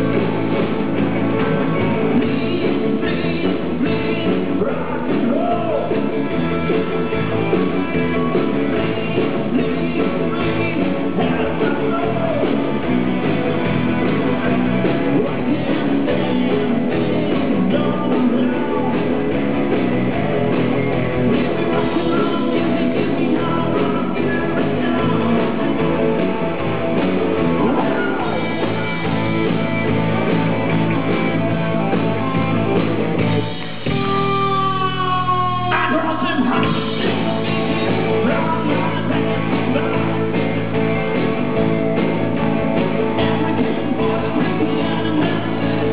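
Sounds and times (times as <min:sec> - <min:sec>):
live rock band: 0:00.0 - 0:45.9
man singing: 0:01.7 - 0:13.0, 0:14.0 - 0:20.6, 0:21.2 - 0:29.4, 0:33.2 - 0:41.4, 0:42.8 - 0:45.9.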